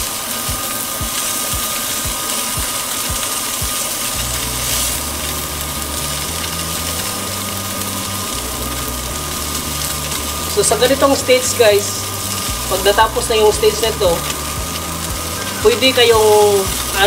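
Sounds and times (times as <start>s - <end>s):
fish sizzling in a frying pan: 0.0s - 17.0s
low mechanical ticking: 0.0s - 17.0s
low uneven drone: 0.0s - 17.0s.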